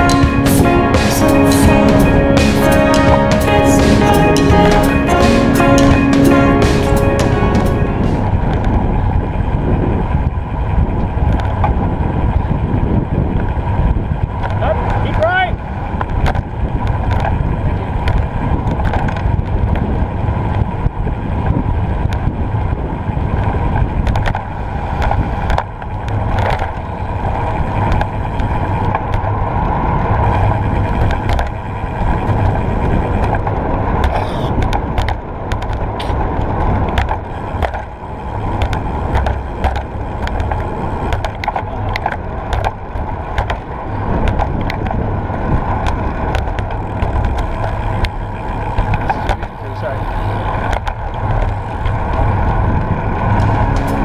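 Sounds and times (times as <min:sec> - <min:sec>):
bicycle tyres on rough asphalt: 0:07.7 - 0:54.0.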